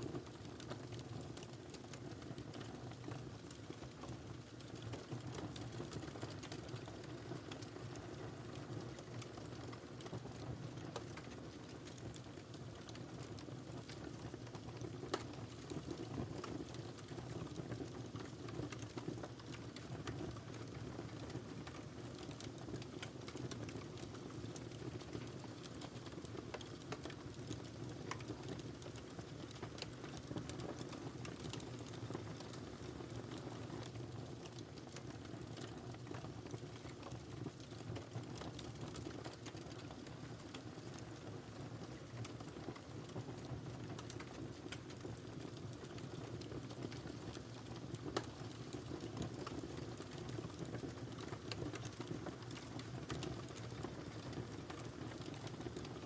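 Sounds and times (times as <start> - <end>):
fire popping and snapping: 0.0 - 56.0
wood fire crackling: 0.0 - 56.0.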